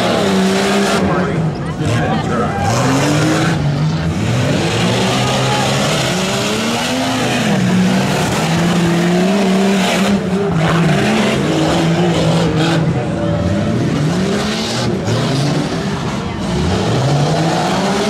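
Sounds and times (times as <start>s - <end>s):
engine and tyre noise: 0.0s - 18.0s
truck engines revving: 0.0s - 18.0s.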